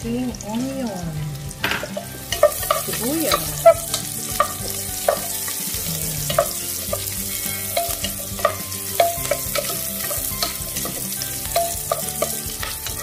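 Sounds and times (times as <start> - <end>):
onion sizzling in oil: 0.0 - 13.0
wooden spatula scraping a pot: 1.8 - 13.0.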